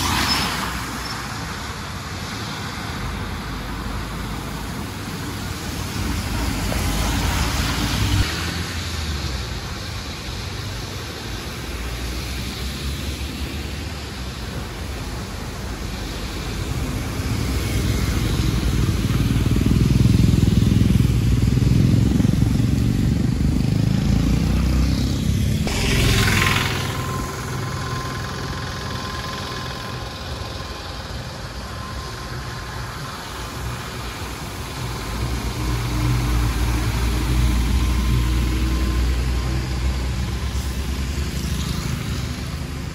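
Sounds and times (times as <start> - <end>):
road noise: 0.0 - 42.9
bus engine running: 0.8 - 42.9.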